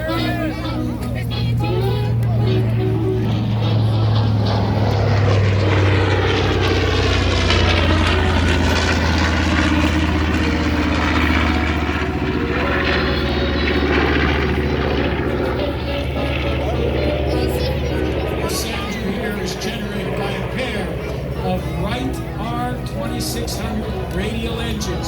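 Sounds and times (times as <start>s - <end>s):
propeller plane passing low: 0.0s - 25.0s.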